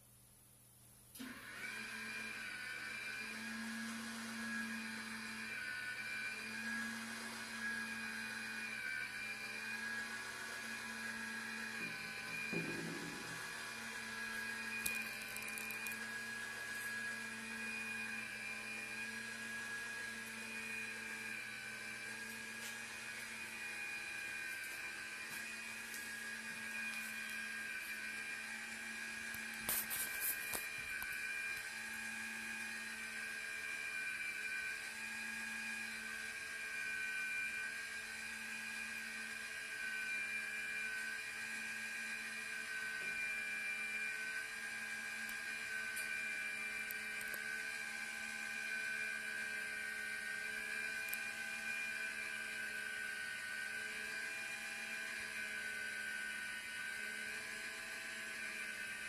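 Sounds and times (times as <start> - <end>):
motor whirring with high whine: 1.1 - 59.0.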